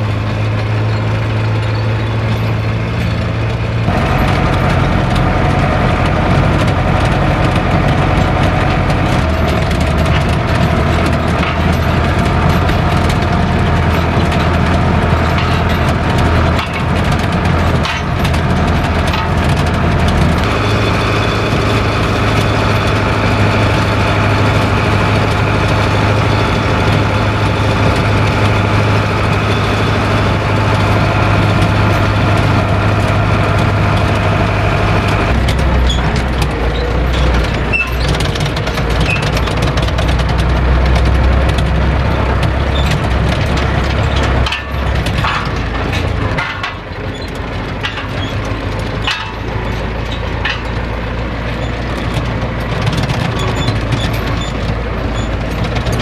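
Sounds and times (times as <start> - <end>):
tractor diesel engine running: 0.0 - 56.0
fast crackling rattle: 0.4 - 56.0.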